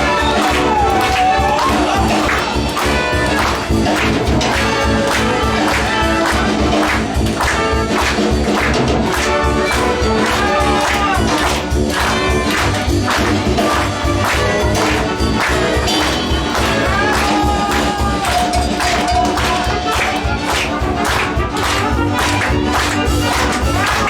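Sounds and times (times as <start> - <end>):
music with percussive beat: 0.0 - 24.0.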